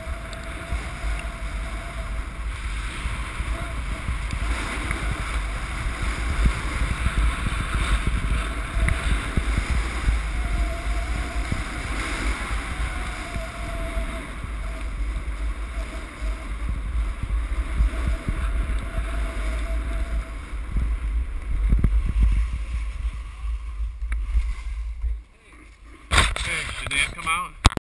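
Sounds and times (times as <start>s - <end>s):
skis sliding over snow: 0.0s - 27.5s
wind buffeting microphone: 0.0s - 27.8s.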